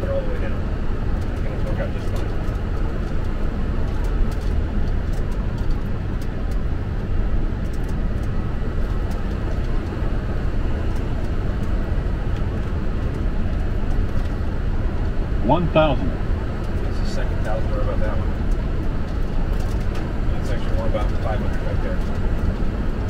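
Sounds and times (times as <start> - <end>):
airflow and engine rumble: 0.0 - 23.0.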